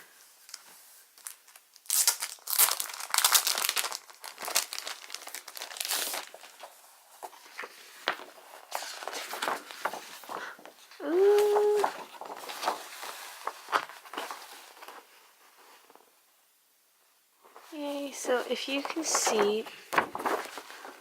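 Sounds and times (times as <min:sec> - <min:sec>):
paper crinkling and rustling: 0:00.4 - 0:16.1, 0:17.5 - 0:21.0.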